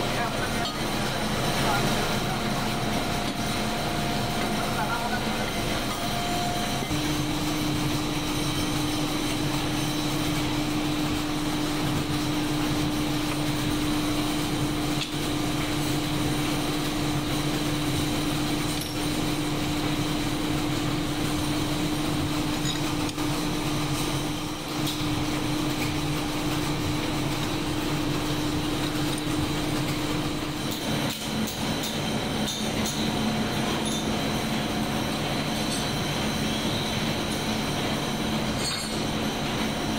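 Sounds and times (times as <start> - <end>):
factory machinery humming: 0.0 - 39.9.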